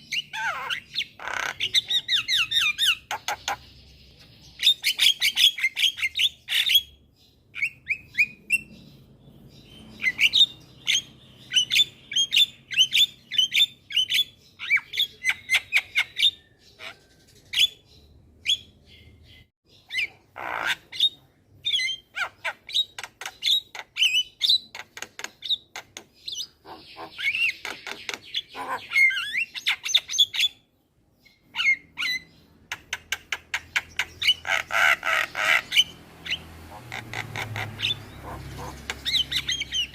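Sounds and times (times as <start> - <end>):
myna chirping and calling: 0.0 - 39.9.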